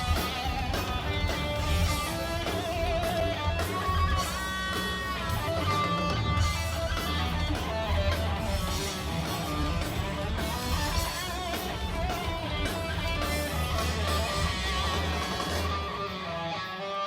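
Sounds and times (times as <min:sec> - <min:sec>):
heavy bass line: 0:00.0 - 0:16.2
rock band playing: 0:00.0 - 0:17.0
strummed electric guitar: 0:00.0 - 0:17.0.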